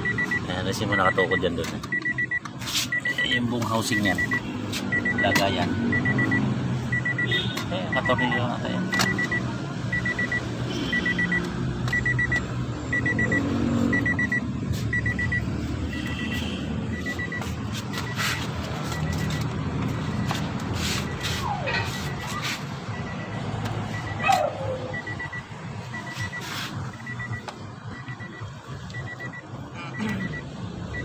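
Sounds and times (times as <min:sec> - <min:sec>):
car warning chime beeping: 0:00.0 - 0:31.0.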